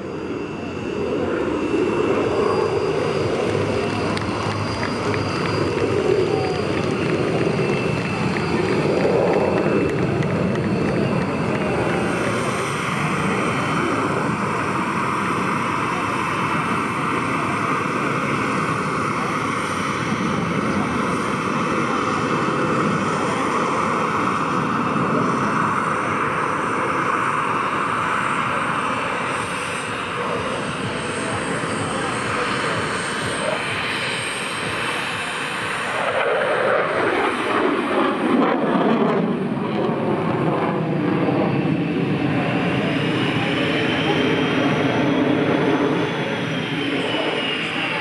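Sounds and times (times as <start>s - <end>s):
fighter jet engine noise: 0.0s - 48.0s.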